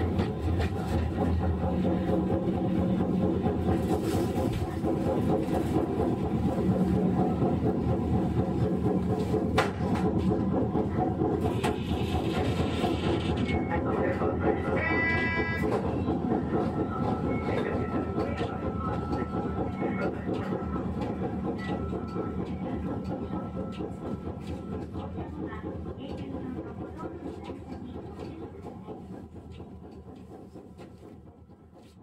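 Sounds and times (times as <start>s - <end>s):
tram wheel-on-rail rumble: 0.0s - 32.0s.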